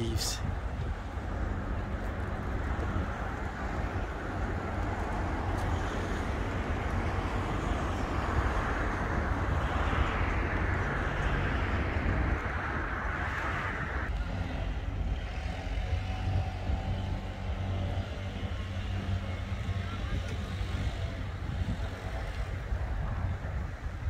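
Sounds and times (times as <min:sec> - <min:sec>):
road traffic noise: 0:00.0 - 0:24.0
wind rumble on microphone: 0:00.0 - 0:24.0.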